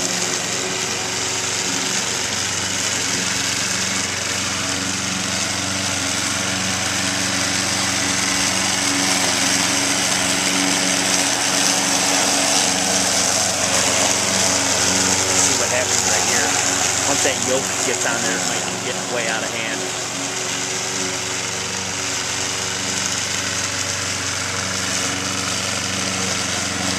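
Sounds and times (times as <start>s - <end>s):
lawnmower engine running: 0.0s - 26.9s.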